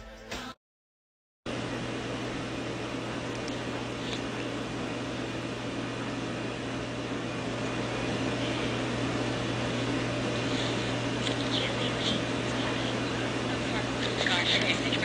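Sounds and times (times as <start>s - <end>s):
steady low hum: 1.5s - 15.0s.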